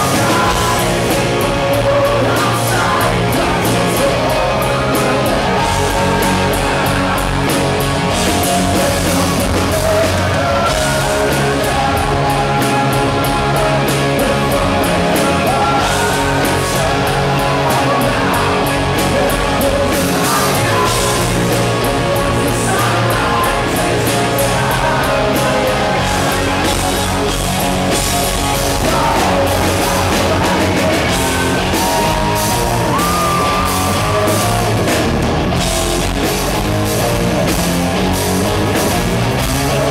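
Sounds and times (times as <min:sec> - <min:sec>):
man singing: 0:00.0 - 0:34.9
live rock band: 0:00.0 - 0:39.9.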